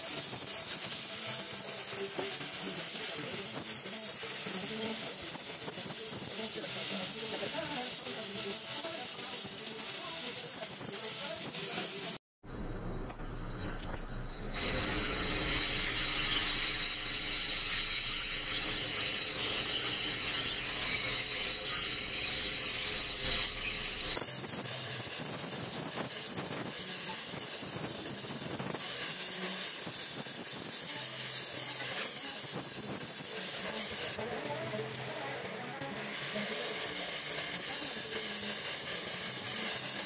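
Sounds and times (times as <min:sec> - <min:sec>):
welding torch flame hissing: 0:00.0 - 0:12.2, 0:14.6 - 0:40.0.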